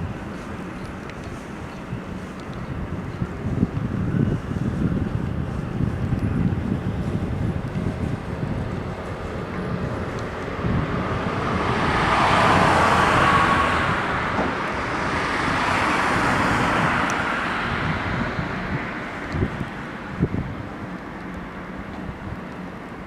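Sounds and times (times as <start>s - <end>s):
boat engine and wash passing: 0.0s - 23.0s
steady low rumble: 0.0s - 23.0s.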